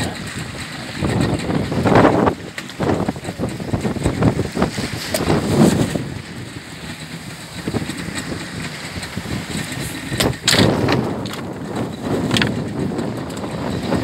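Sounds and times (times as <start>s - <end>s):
water washing against boat hull: 0.0s - 14.0s
wind buffeting microphone: 0.0s - 14.0s.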